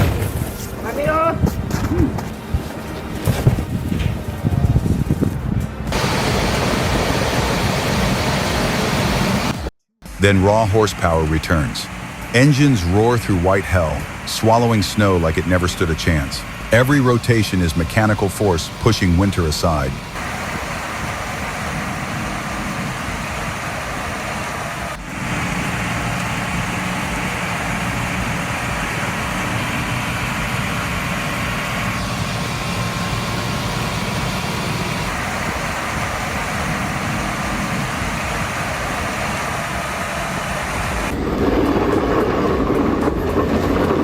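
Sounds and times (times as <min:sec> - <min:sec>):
snow-clearing machine engine: 0:00.0 - 0:44.0.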